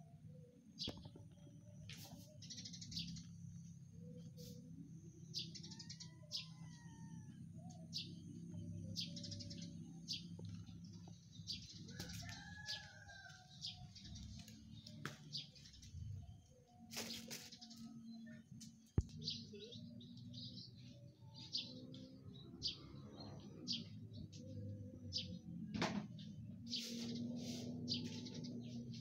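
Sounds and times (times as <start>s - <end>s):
small birds chirping: 0.2s - 29.0s.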